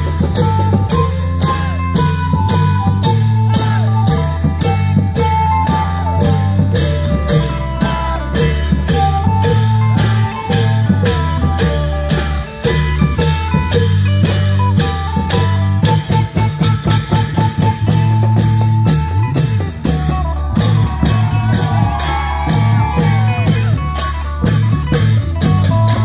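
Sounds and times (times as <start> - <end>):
deep drum tones: 0.0 - 26.0
pitched melody line: 0.0 - 26.0.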